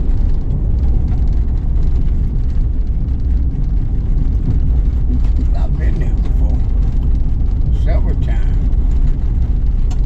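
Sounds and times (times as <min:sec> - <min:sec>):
vehicle engine and tyre noise: 0:00.0 - 0:10.0.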